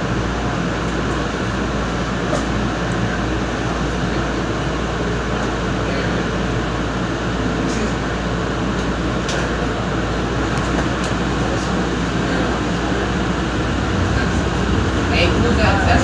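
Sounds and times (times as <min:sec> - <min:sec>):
tram wheels rumbling: 0:00.0 - 0:16.0.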